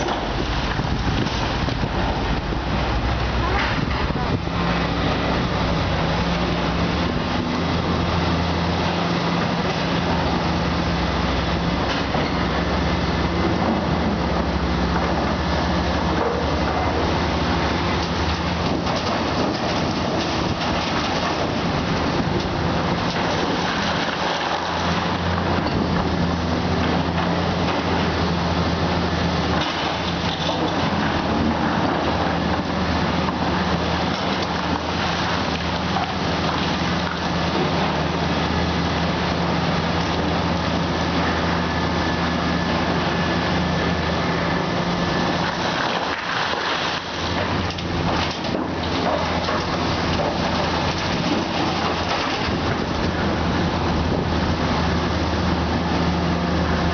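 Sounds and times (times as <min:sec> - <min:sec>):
dense noisy wash: 0:00.0 - 0:56.9
excavator diesel engine: 0:00.0 - 0:56.9.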